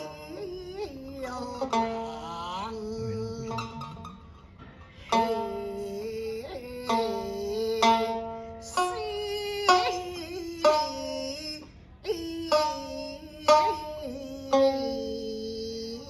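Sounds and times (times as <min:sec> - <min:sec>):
person singing long notes: 0:00.0 - 0:04.2, 0:05.1 - 0:16.0
plucked lute strokes: 0:00.0 - 0:16.0.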